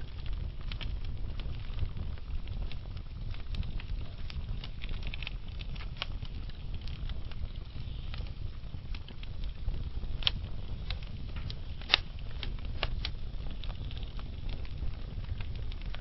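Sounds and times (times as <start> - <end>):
flames rumbling in fireplace: 0.0 - 16.0
logs crackling and popping: 0.0 - 16.0.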